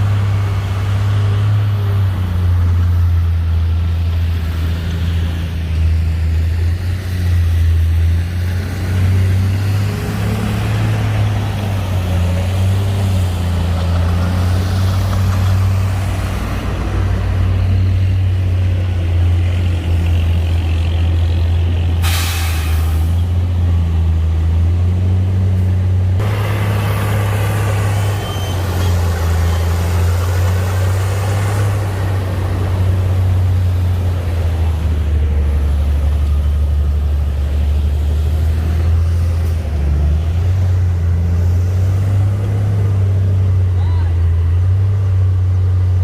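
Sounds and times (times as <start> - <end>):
heavy diesel engine droning: 0.0 - 46.0.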